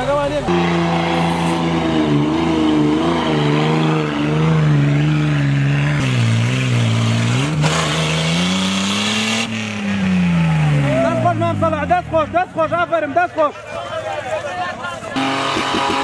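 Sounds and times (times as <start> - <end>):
car engine revving under load: 0.3 - 12.9, 15.2 - 16.0.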